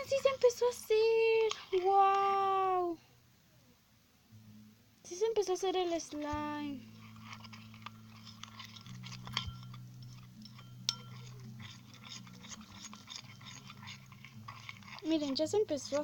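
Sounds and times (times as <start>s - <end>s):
slime squelching: 0.0s - 2.6s, 5.1s - 16.0s
low steady hum: 0.0s - 16.0s.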